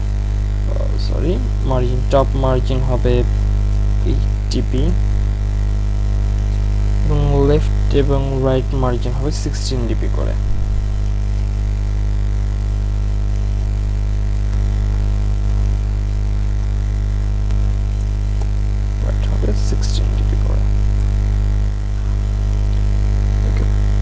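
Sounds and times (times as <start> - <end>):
mains hum: 0.0 - 24.0.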